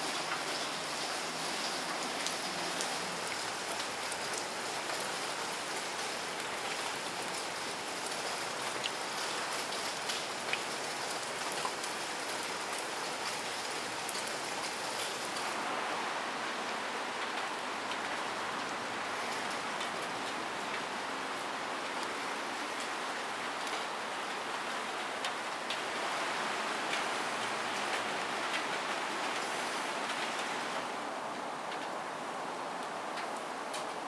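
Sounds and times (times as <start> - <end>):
rain on stony ground: 0.0 - 34.0.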